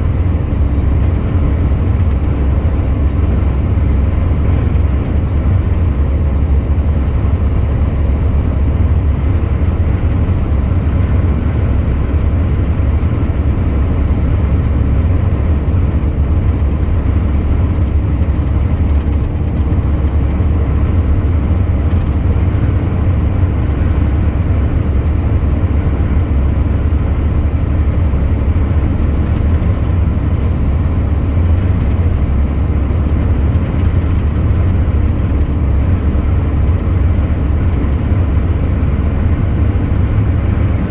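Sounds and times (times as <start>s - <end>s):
heavy truck driving: 0.0s - 40.9s.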